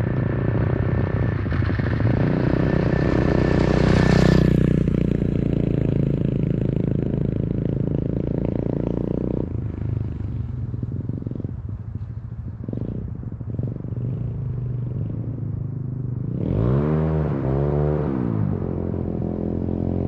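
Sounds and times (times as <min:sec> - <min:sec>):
motorcycle engine under load: 0:00.0 - 0:20.0.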